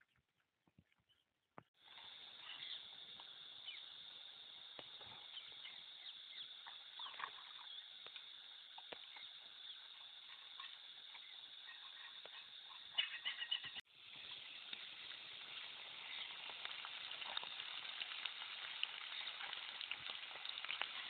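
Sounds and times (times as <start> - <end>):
oil sizzling and popping: 1.8 - 21.0.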